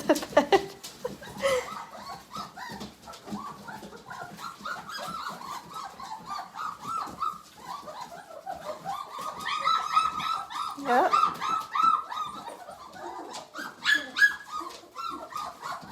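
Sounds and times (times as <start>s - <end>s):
puppies whimpering and squealing: 0.0s - 15.9s.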